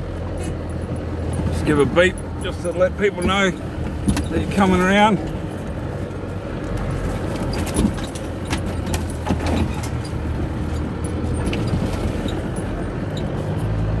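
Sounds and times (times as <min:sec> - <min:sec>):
vehicle engine from inside cabin: 0:00.0 - 0:14.0
rattles and knocks: 0:00.7 - 0:13.4.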